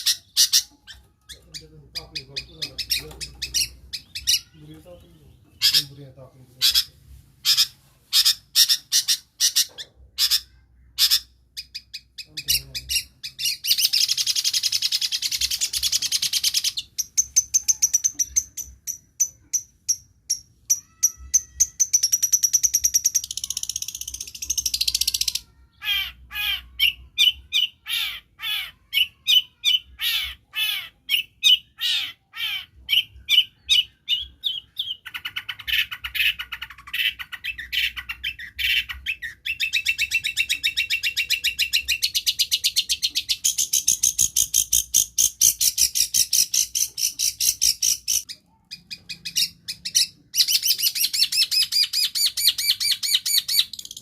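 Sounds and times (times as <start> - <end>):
bird singing mimicking song: 0.0 - 54.0.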